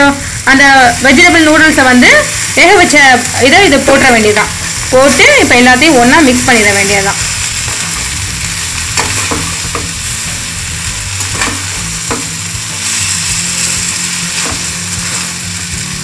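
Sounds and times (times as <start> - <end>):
noodles sizzling in a frying pan: 0.0 - 16.0.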